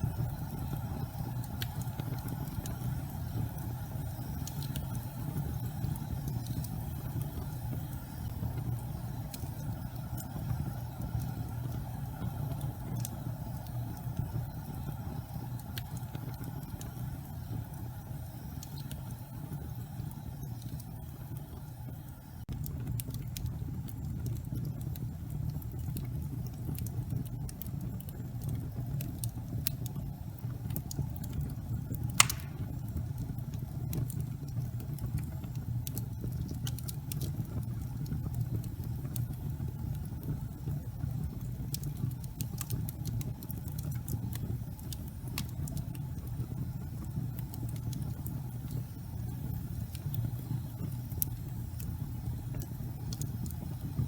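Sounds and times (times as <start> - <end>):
fire burning in a fireplace: 0.0 - 54.0
fire crackles and pops: 0.0 - 54.0.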